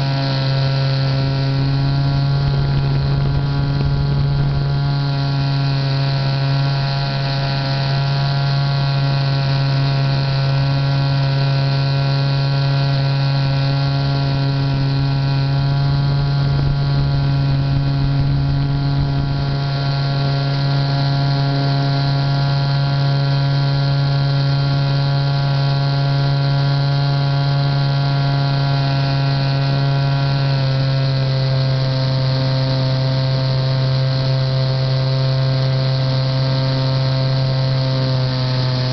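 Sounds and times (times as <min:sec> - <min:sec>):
model plane motor drone: 0:00.0 - 0:38.9.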